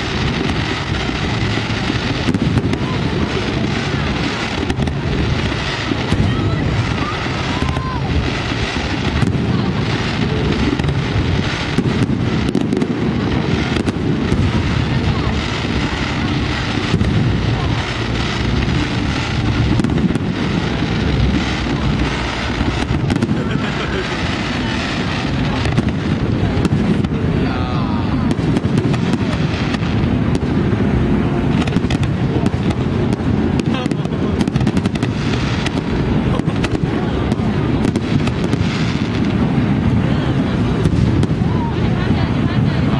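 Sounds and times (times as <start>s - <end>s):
fireworks bursts and crackling: 0.0s - 42.9s
sharp firework cracks: 0.0s - 42.9s.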